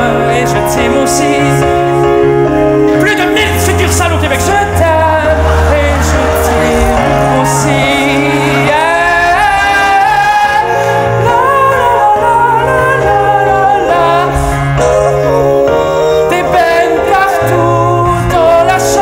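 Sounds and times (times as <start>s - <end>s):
electric keyboard chords: 0.0s - 19.0s
man singing love song: 0.0s - 19.0s.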